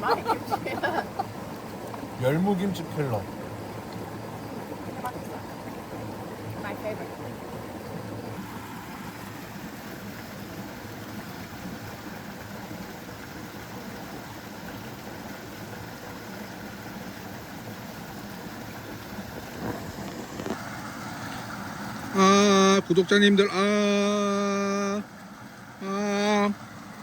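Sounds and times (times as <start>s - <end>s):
stream water running: 0.0s - 27.0s.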